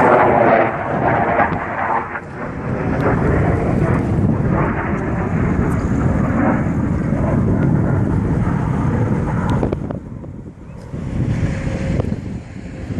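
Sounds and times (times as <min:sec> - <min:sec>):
loud jet engine noise: 0:00.0 - 0:12.9
wind buffeting microphone: 0:00.0 - 0:12.9.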